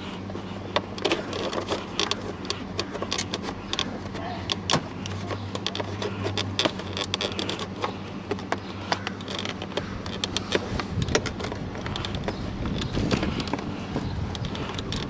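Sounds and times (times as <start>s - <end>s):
plastic clicks and creaks: 0.2s - 15.0s.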